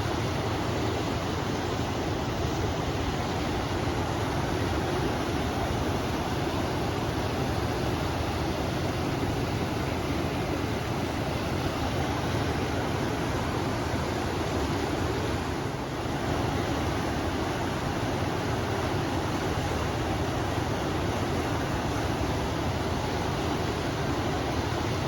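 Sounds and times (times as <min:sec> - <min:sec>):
river water rushing: 0:00.0 - 0:25.0
wind: 0:00.0 - 0:25.0.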